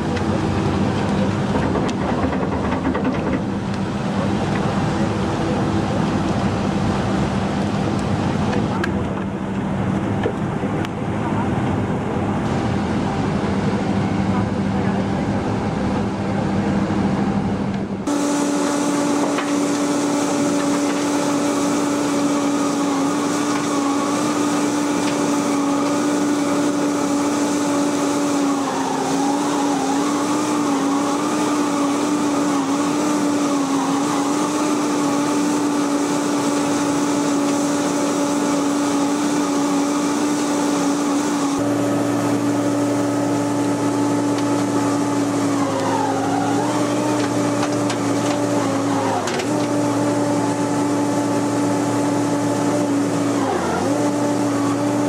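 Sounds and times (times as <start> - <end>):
wood chipper engine running: 0.0 - 55.0.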